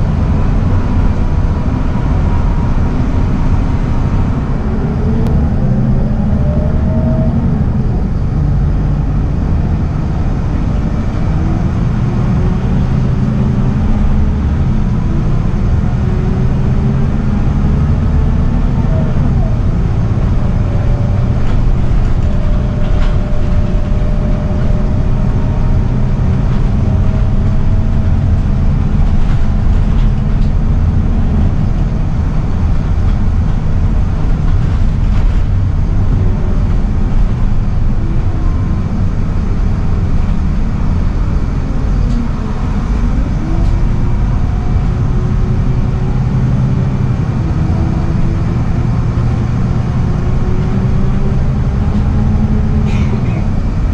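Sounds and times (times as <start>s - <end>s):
bus diesel engine rumble: 0.0s - 53.9s
drivetrain whine: 0.0s - 53.9s
road noise: 0.0s - 53.9s.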